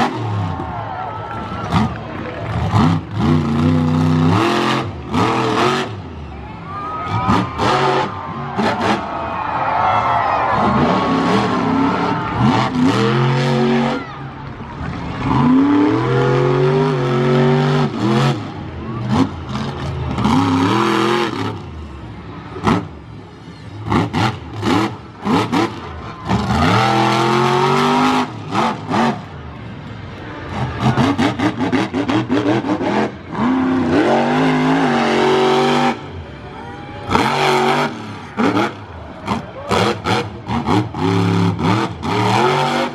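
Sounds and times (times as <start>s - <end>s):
monster truck engine revving: 0.0s - 42.9s.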